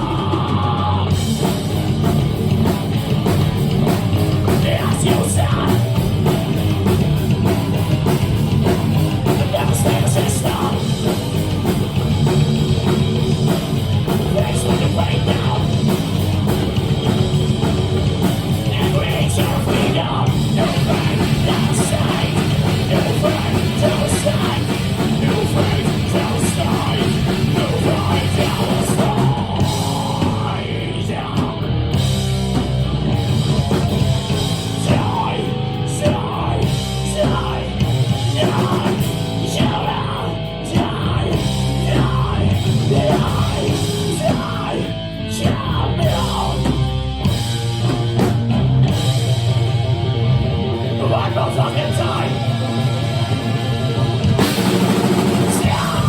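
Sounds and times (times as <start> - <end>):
metal band playing live: 0.0 - 56.0
pounding drum kit: 0.0 - 56.0.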